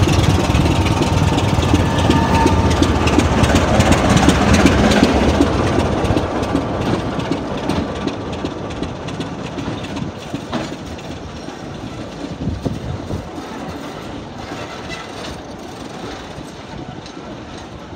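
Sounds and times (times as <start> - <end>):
diesel locomotive engines: 0.0 - 17.9
wheels clicking over rail joints: 0.0 - 17.9.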